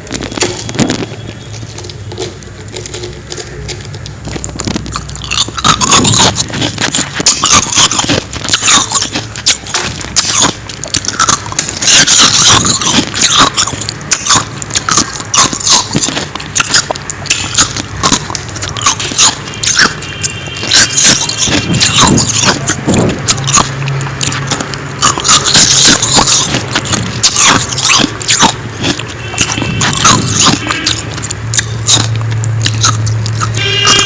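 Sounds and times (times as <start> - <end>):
crunching ice: 0.0 - 34.0.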